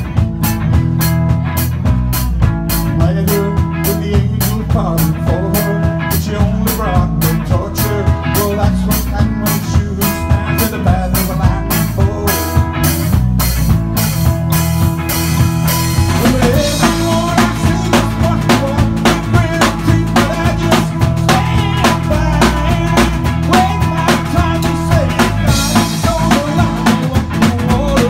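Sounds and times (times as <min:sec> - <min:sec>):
drum kit beat: 0:00.0 - 0:28.0
electric bass guitar: 0:00.0 - 0:28.0
electric guitar: 0:00.0 - 0:28.0.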